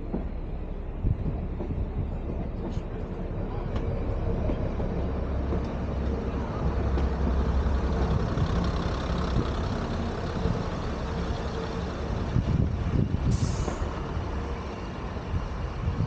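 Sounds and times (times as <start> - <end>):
heavy engine rumbling: 0.0 - 16.0.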